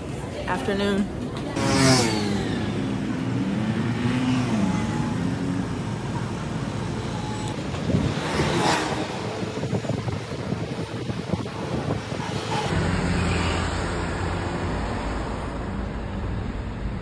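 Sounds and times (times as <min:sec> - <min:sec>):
vehicles and scooters passing: 0:00.0 - 0:17.0.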